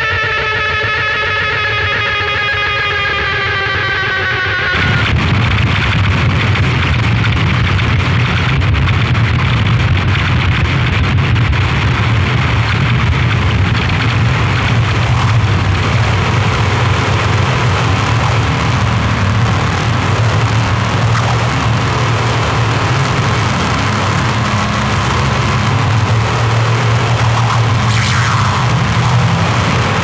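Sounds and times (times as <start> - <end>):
harsh noise music: 0.0 - 30.0.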